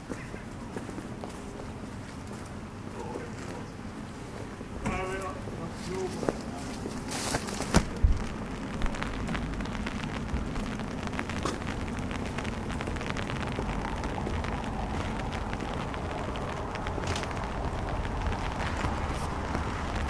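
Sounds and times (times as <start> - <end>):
rain on a cobbled street: 0.0 - 20.0.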